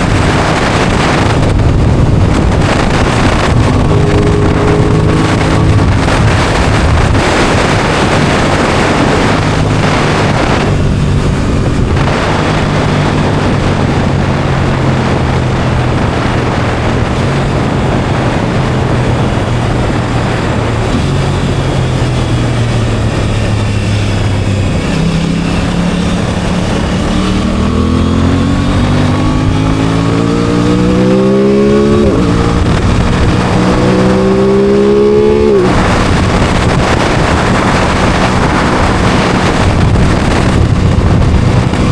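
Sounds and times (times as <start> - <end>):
motorcycle engine revving: 0.0 - 41.9
wind rush: 0.0 - 41.9.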